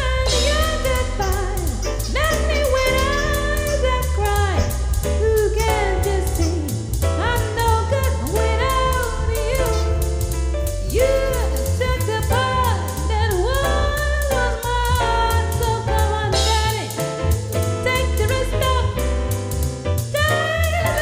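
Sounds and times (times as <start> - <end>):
pop song with heavy bass beat: 0.0 - 21.0.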